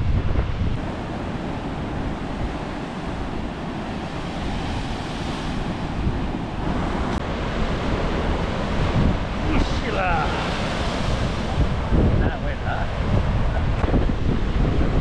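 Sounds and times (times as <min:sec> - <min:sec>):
ocean waves and surf: 0:00.0 - 0:15.0
wind buffeting microphone: 0:00.0 - 0:15.0.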